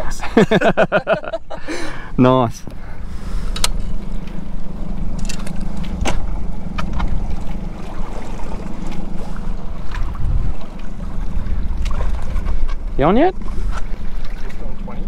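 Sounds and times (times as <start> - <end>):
boat engine low rumble: 0.0 - 15.0
water sloshing against hull: 0.4 - 15.0.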